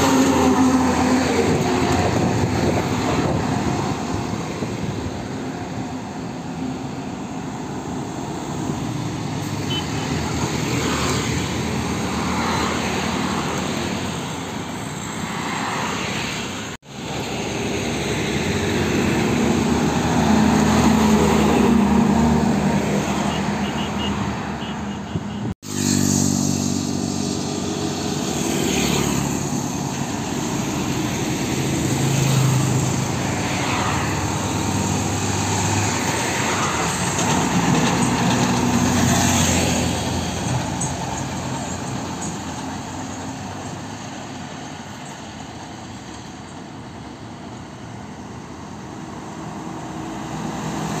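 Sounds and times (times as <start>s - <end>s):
lorries and cars driving by: 0.0s - 51.0s.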